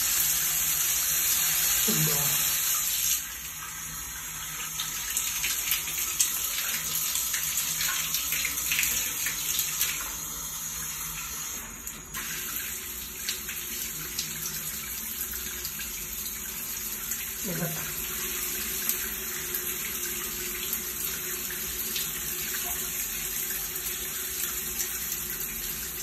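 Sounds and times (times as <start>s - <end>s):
water running from tap: 0.0s - 26.0s.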